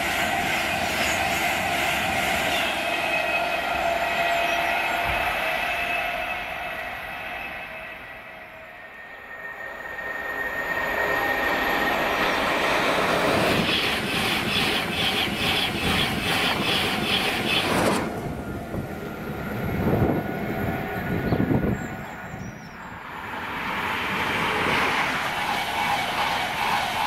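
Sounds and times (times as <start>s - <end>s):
train passing at speed: 0.0s - 27.0s.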